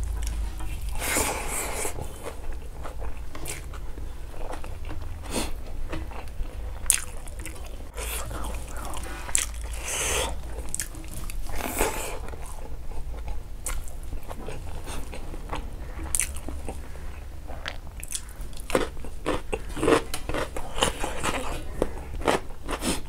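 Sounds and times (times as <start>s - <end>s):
person chewing with mouth smacks: 0.0s - 23.0s.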